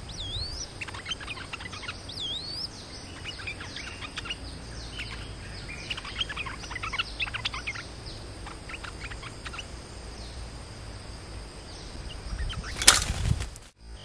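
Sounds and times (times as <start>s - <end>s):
songbirds chirping: 0.0s - 14.0s
steady high hum: 0.0s - 14.0s.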